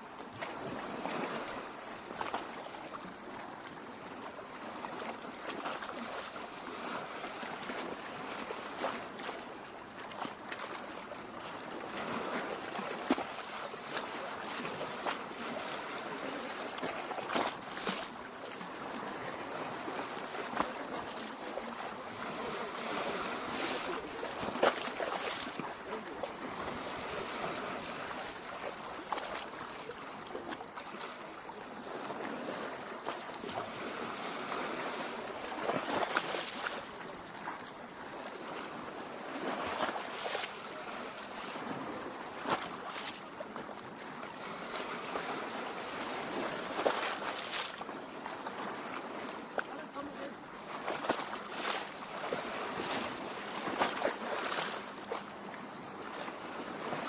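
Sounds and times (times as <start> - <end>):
small water splashes: 0.0 - 57.0
waves lapping at shore: 0.0 - 57.0.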